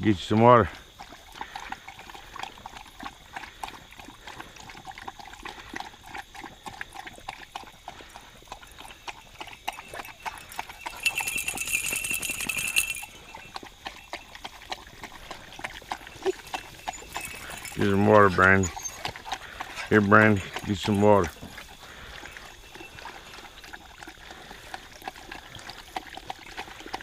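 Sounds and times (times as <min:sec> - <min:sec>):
dogs lapping water: 0:00.0 - 0:27.0.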